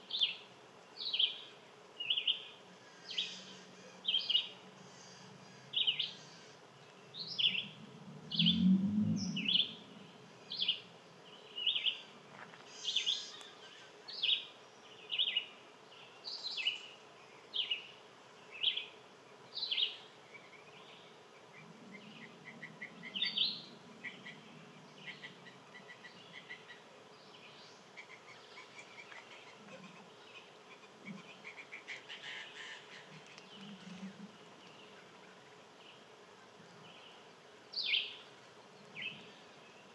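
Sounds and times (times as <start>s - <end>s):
faint rapid bird trills: 0.0s - 39.9s
insect buzzing past: 1.0s - 39.9s.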